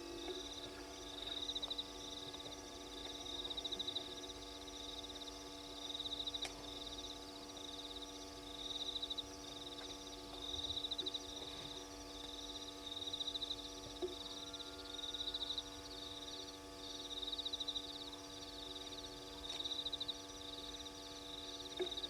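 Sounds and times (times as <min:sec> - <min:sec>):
insects trilling: 0:00.0 - 0:22.0
steady low hum: 0:00.0 - 0:22.0.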